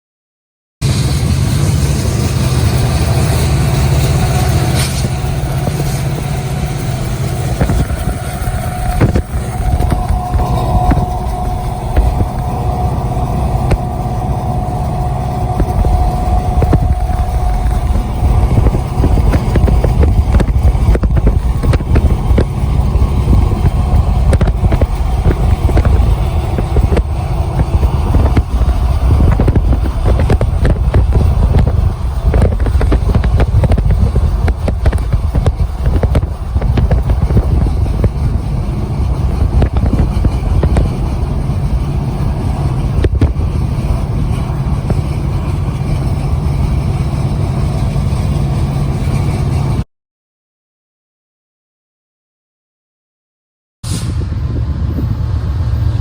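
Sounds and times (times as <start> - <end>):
train passing: 0.8 - 49.8, 53.9 - 56.0.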